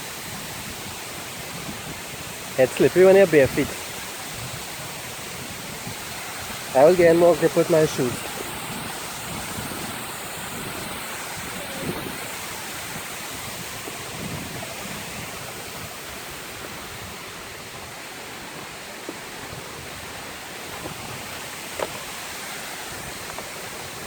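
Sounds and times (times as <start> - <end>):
waterfall rushing and splashing: 0.0 - 24.0.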